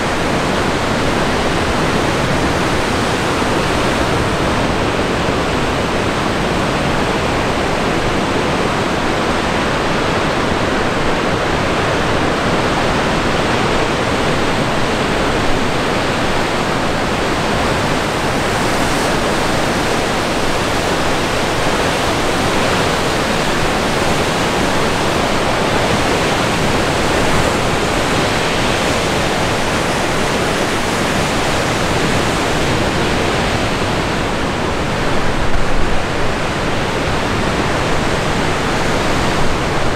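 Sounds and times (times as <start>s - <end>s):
sea breeze rushing: 0.0s - 39.9s
waves breaking against cliffs: 0.0s - 39.9s.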